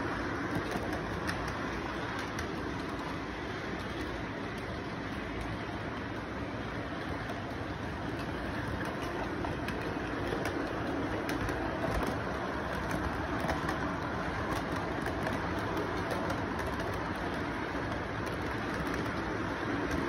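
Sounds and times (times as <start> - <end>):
model train wheels rumbling on rail: 0.0 - 20.0.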